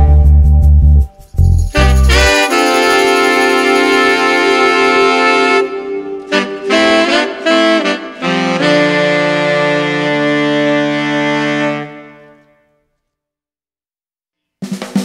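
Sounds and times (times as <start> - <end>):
instrumental background music: 0.0 - 12.6.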